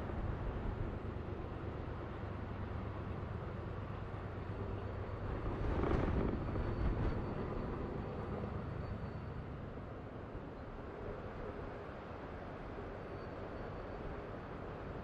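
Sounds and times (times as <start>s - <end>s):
distant diesel locomotives rumbling: 0.0s - 15.0s.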